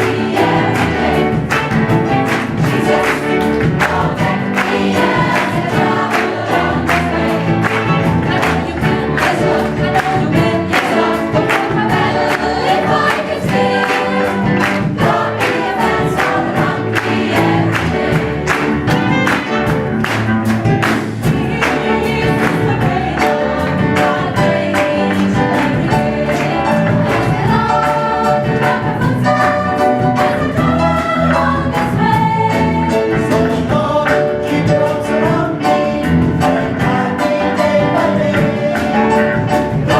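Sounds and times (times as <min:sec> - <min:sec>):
choir singing gospel: 0:00.0 - 0:39.9
instrumental accompaniment with beat: 0:00.0 - 0:39.9.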